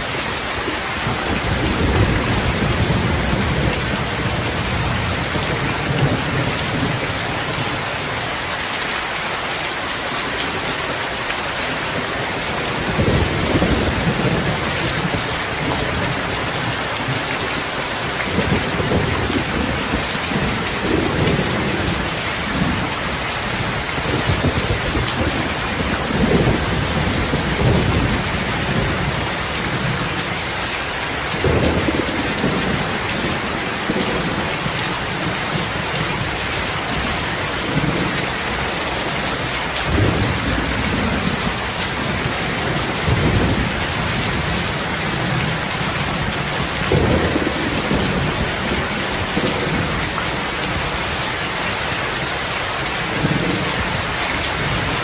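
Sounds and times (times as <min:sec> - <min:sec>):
heavy rain falling: 0:00.0 - 0:55.0
thunder rumbling: 0:01.0 - 0:07.7, 0:12.0 - 0:30.4, 0:31.1 - 0:50.9.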